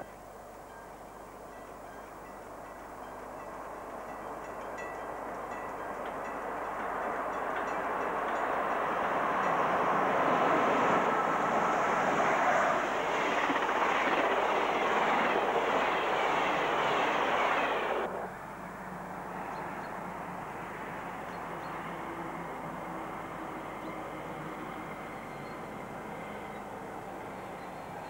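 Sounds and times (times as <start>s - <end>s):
train passing at high speed: 1.1s - 28.0s.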